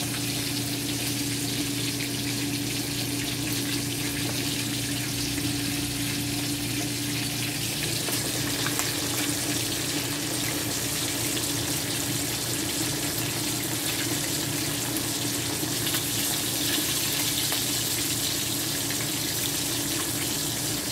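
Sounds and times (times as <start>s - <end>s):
oil sizzling in a pan: 0.0s - 20.9s.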